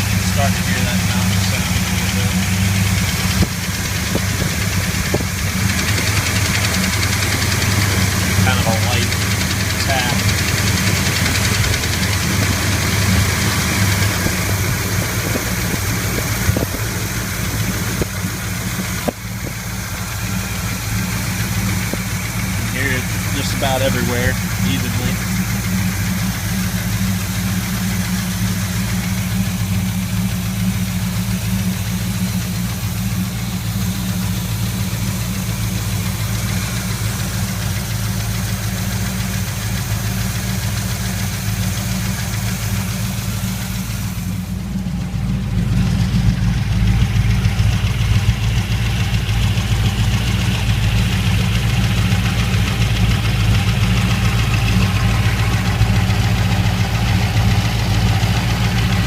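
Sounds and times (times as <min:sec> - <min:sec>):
engine idling with light tapping: 0:00.0 - 0:59.0.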